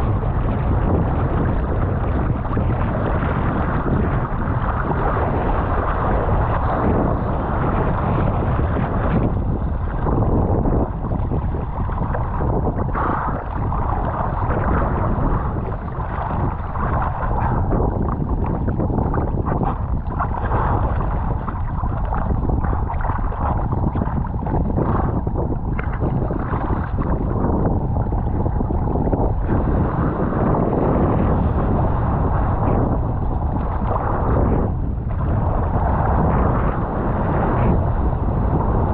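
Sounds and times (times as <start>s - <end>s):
seawater splashing and gurgling: 0.0s - 38.9s
wind buffeting microphone: 0.0s - 38.9s.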